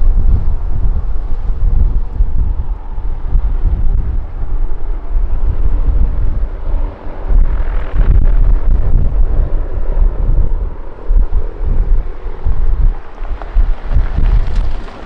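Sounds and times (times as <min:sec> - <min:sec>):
distant jet engines drone: 0:00.0 - 0:15.0
wind buffeting microphone: 0:00.0 - 0:15.0.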